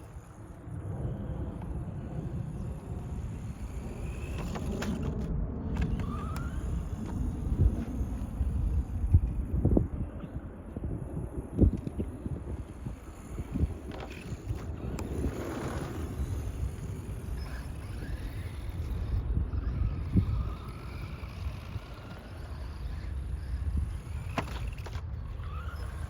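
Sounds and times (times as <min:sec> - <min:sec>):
electric toy car motor whining: 0:00.0 - 0:26.0
wind buffeting microphone: 0:00.0 - 0:26.0.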